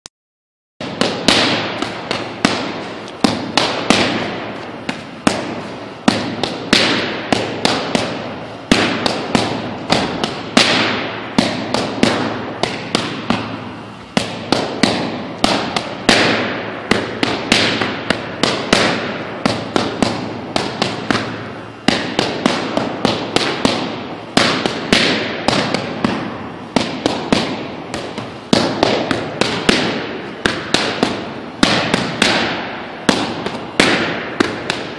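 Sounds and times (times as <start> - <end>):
boxing gloves hitting mitts: 0.8 - 34.9.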